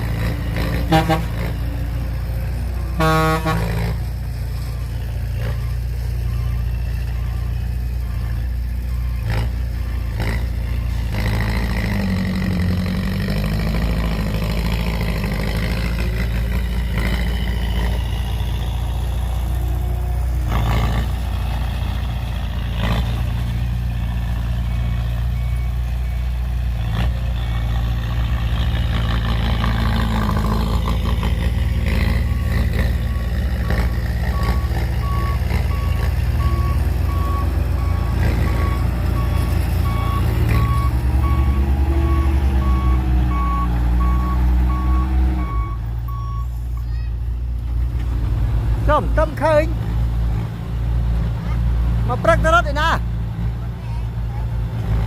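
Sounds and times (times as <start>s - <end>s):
vehicle reversing beeper: 0.0s - 47.3s
heavy diesel machinery running: 0.0s - 55.0s.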